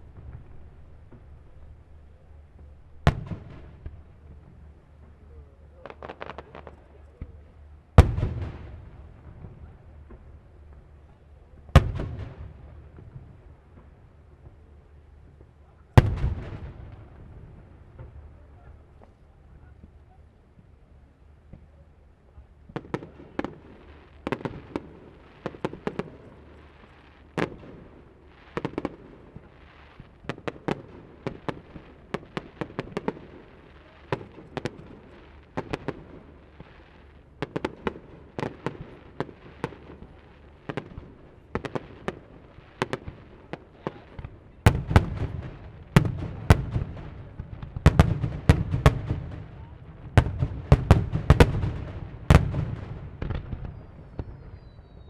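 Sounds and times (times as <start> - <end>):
fireworks deep booms: 0.0 - 20.2, 21.4 - 55.0
fireworks bangs and crackles: 0.0 - 55.0.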